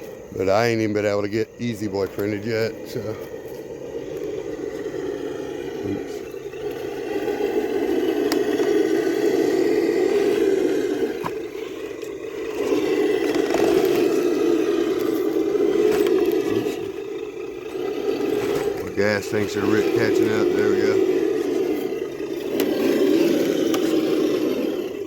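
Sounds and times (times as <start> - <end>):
rc car motor whirring: 0.0 - 25.0
tyres scraping: 0.0 - 25.0.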